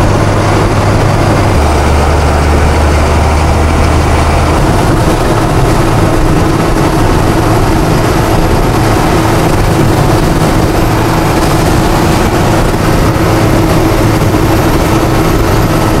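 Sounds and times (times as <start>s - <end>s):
engine and road noise in cab: 0.0s - 16.0s.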